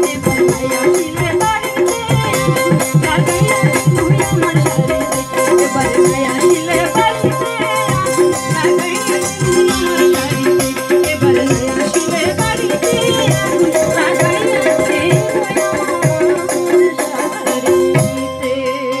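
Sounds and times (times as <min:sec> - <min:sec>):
hand drum beat: 0:00.0 - 0:18.4
rattle-like percussion: 0:00.0 - 0:19.0
woman singing into a microphone: 0:00.0 - 0:19.0.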